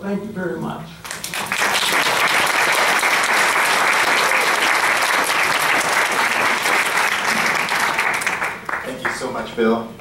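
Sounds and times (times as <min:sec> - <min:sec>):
audience applauding: 0:01.1 - 0:09.4.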